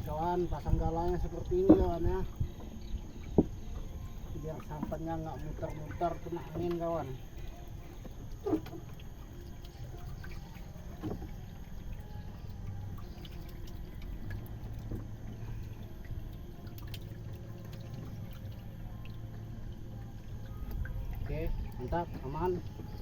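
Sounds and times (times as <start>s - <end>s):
river water splashing and trickling: 0.0s - 23.0s.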